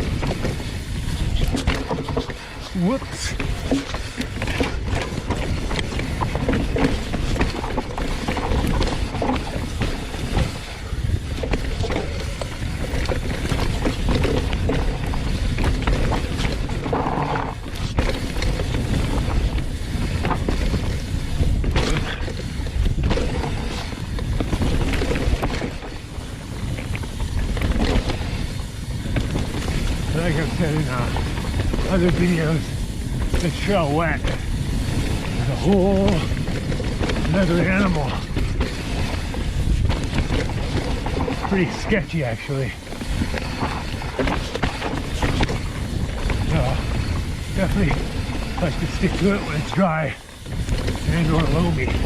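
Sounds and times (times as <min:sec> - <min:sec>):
bike frame and chain rattling: 0:00.0 - 0:52.0
bike knocking over bumps: 0:00.0 - 0:52.0
bike tyres on dirt: 0:00.0 - 0:52.0
wind rushing over microphone: 0:00.0 - 0:52.0.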